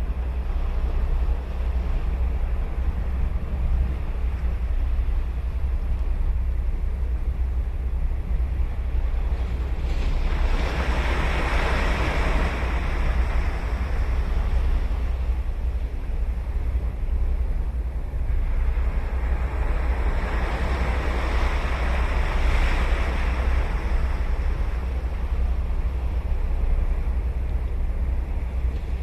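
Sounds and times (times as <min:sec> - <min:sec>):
ocean surf rumbling: 0:00.0 - 0:29.0.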